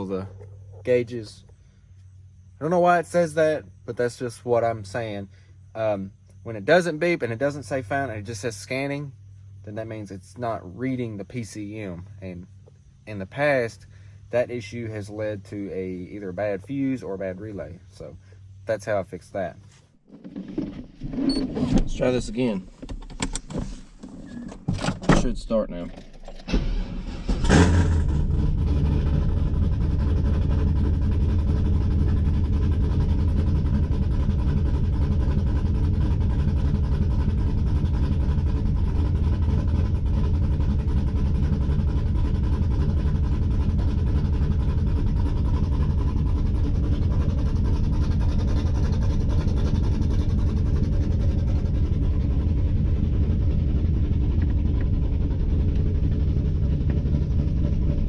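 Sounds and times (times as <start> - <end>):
car engine starting and idling: 0.0 - 58.0.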